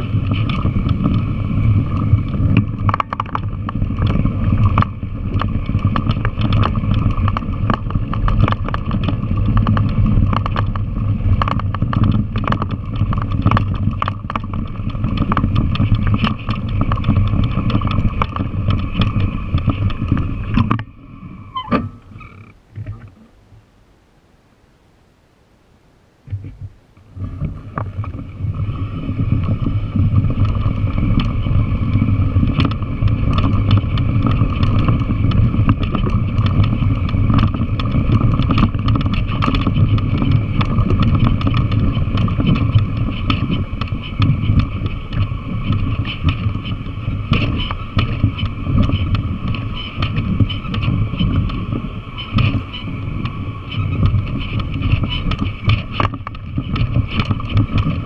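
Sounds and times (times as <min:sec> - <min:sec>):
motorcycle engine running: 0:00.0 - 0:22.2, 0:27.2 - 0:58.0
clicks and rattles from rough ground: 0:00.0 - 0:23.3, 0:26.2 - 0:58.0.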